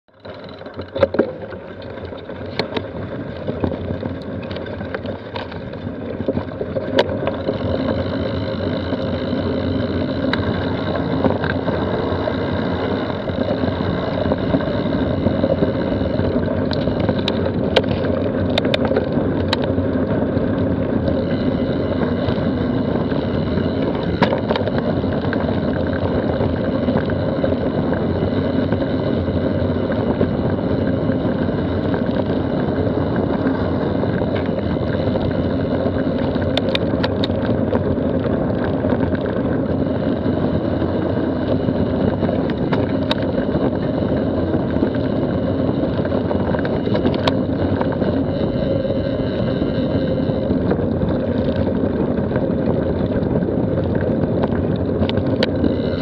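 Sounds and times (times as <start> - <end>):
bike clicks and rattles: 0.1 - 56.0
wind rushing on microphone: 2.2 - 56.0.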